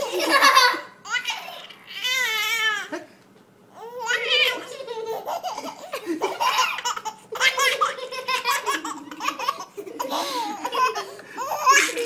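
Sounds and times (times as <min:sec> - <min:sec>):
baby laughing: 0:00.0 - 0:03.1, 0:03.8 - 0:12.0.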